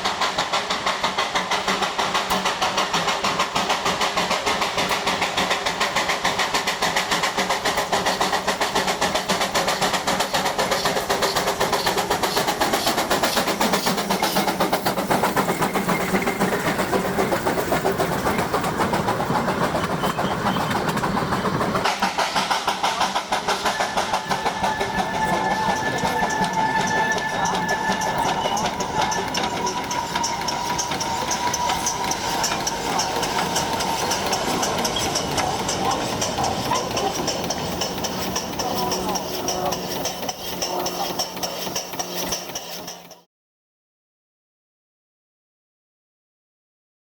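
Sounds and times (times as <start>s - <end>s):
steam locomotive chuffing: 0.0s - 43.3s.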